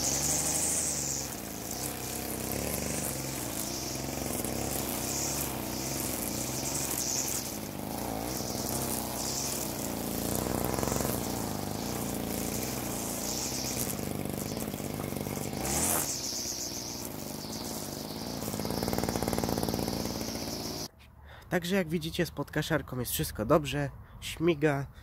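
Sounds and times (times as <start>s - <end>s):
string trimmer engine running: 0.0s - 20.9s
trimmer line swishing through grass: 0.0s - 20.9s.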